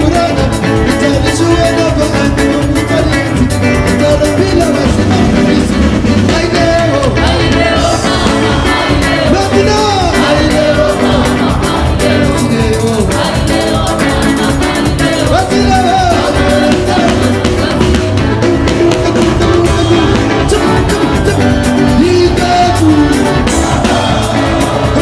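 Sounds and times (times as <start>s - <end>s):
live band music: 0.0s - 25.0s
person singing: 0.0s - 25.0s
pulsing drum beat: 0.0s - 25.0s.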